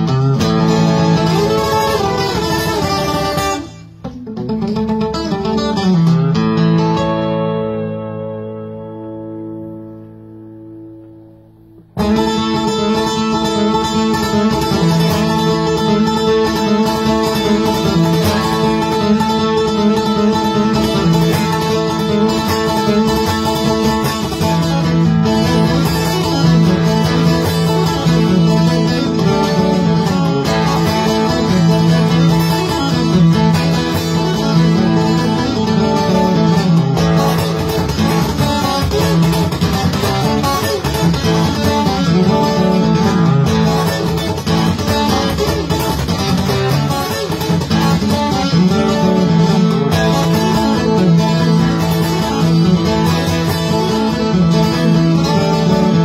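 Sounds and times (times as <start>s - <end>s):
fingerstyle acoustic guitar: 0.0s - 56.0s.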